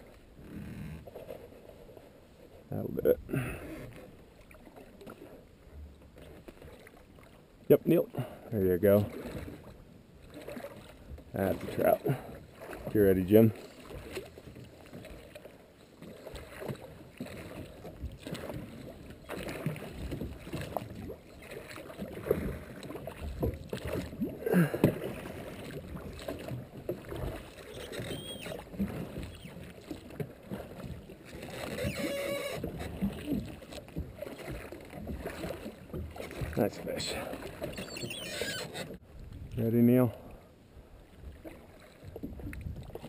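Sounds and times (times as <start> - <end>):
water sloshing around boat: 0.0 - 43.0.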